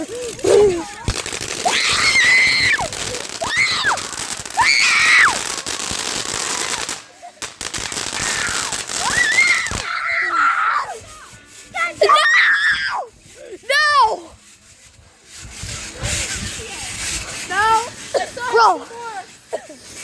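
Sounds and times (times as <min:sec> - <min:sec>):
firework shrieks: 0:00.0 - 0:13.4, 0:15.4 - 0:20.0
firework crackling and popping: 0:00.0 - 0:20.0.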